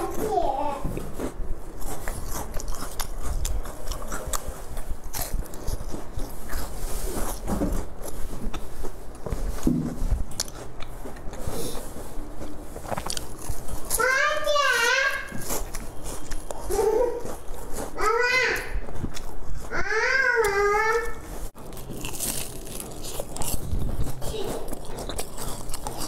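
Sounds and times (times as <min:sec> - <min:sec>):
biting and chewing pastry: 0:01.0 - 0:26.0.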